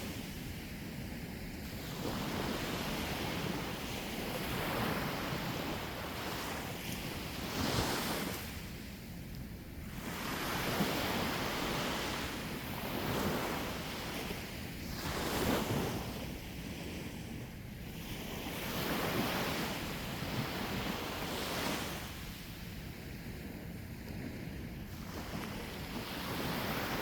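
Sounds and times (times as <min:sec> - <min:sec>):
sea waves breaking on shore: 0:00.0 - 0:27.0
wind on microphone: 0:00.0 - 0:27.0.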